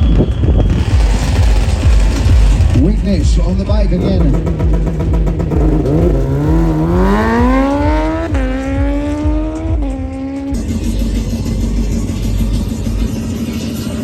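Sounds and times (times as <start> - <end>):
vehicle engine revving hard: 0.7 - 12.0.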